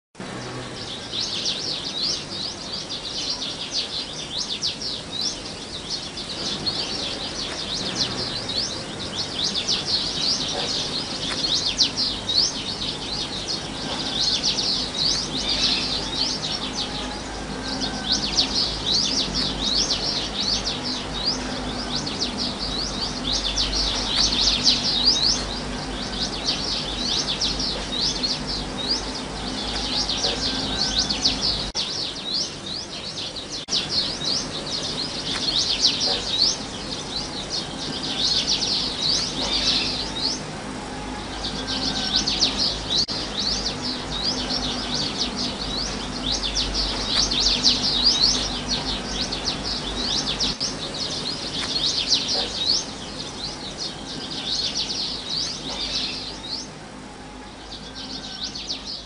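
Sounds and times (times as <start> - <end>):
birds chirping: 0.2 - 59.0.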